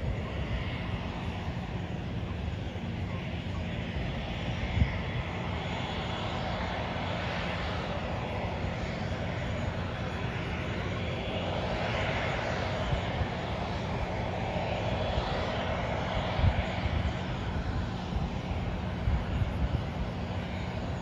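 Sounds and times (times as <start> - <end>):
jet engines rushing and whining: 0.0 - 21.0.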